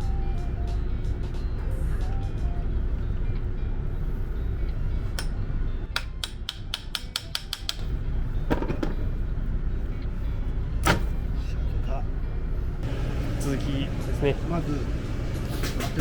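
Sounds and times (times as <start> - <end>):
steady low hum: 0.0 - 6.0, 7.8 - 16.0.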